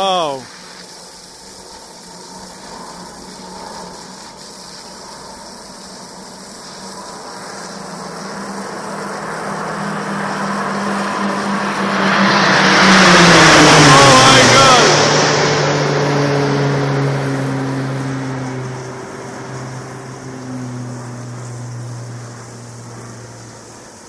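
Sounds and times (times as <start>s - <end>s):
airplane engines humming: 0.0s - 24.0s.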